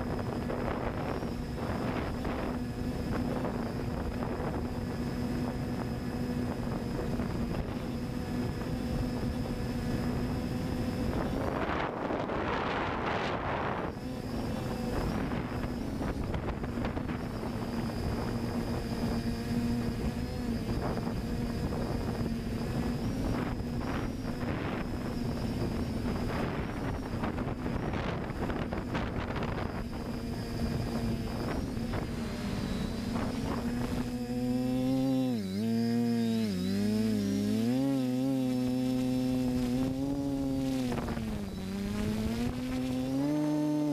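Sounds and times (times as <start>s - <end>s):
wind buffeting microphone: 0.0s - 35.4s, 36.8s - 43.9s
drone motors and propellers humming: 0.0s - 43.9s.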